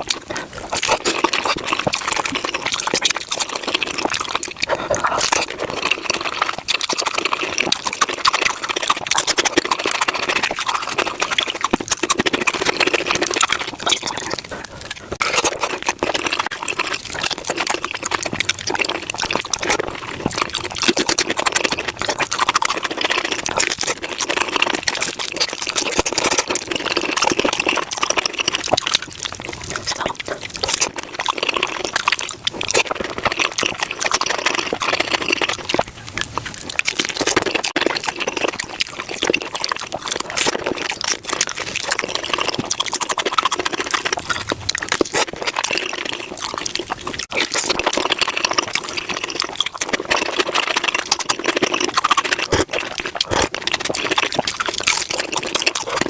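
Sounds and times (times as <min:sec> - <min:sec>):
sped-up chewing and crunching: 0:00.0 - 0:56.0.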